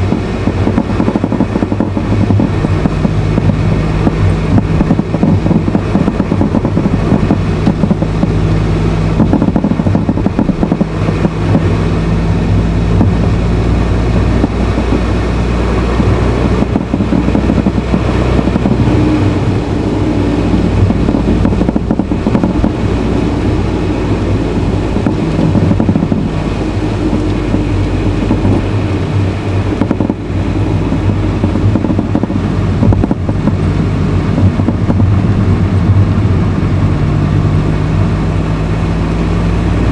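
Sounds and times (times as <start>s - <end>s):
car engine hum: 0.0s - 39.9s
road noise: 0.0s - 39.9s.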